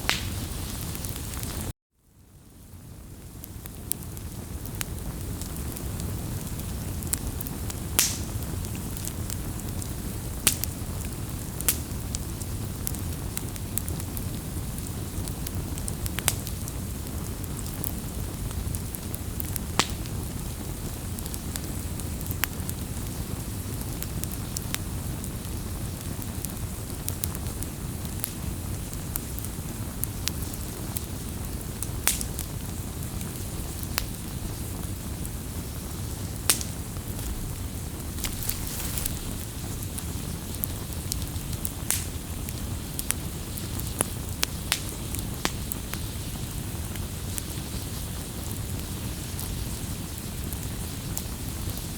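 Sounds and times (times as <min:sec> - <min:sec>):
wood fire crackling: 0:00.0 - 0:01.7, 0:02.3 - 0:51.9
low rush of burning: 0:03.2 - 0:51.9.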